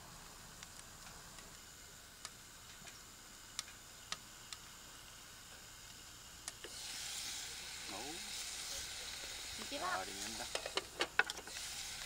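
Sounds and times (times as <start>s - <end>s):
fire popping: 0.0s - 12.0s
frying pan sizzling: 0.0s - 12.0s
wood fire crackling: 0.0s - 12.0s.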